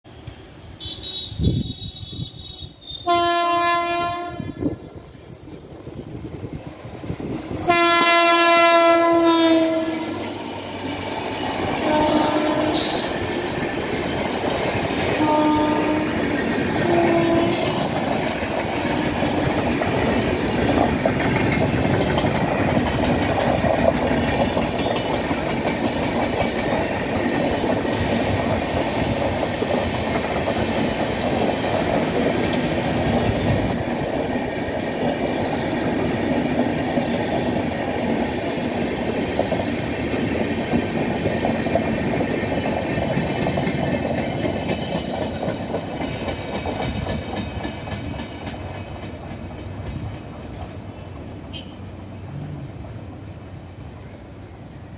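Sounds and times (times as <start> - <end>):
train rumble: 0.1 - 54.9
wheels clattering over rail joints: 9.9 - 38.2, 38.8 - 54.9.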